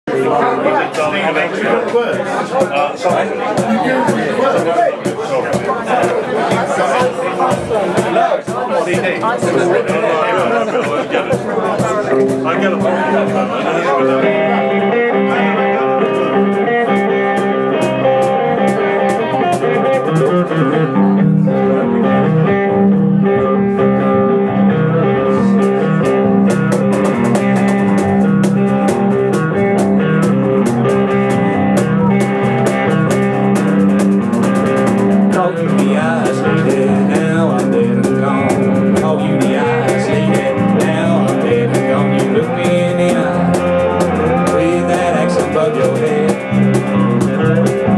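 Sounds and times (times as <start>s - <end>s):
guitar: 0.0s - 47.9s
live band playing instrumental: 0.1s - 47.9s.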